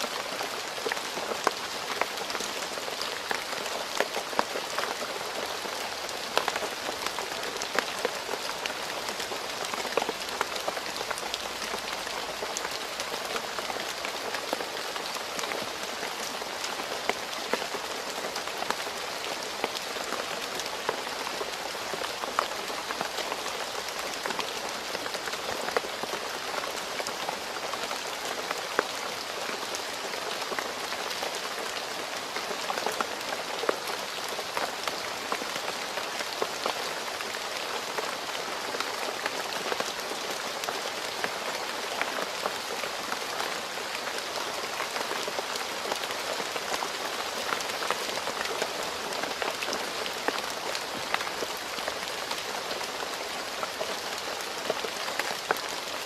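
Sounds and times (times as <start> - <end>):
rain falling on road: 0.0 - 56.0.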